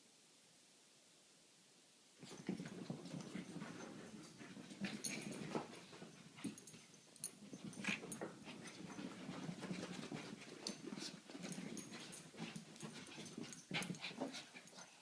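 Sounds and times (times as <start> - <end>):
dogs scuffling: 2.2 - 15.0.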